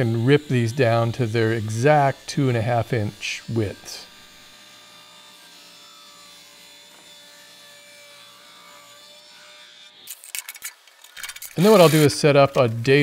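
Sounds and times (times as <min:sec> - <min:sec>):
table saw ripping a board: 0:00.1 - 0:12.8.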